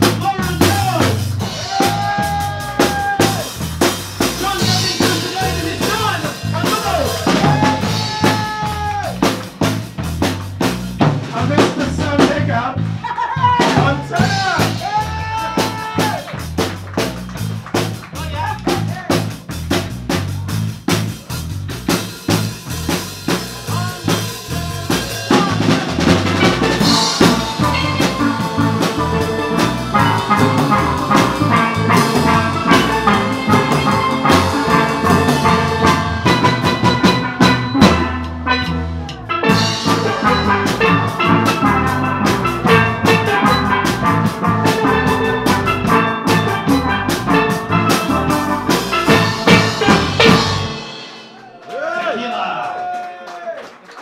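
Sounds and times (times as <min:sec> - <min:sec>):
electric bass guitar: 0:00.0 - 0:51.1
drum kit: 0:00.0 - 0:51.7.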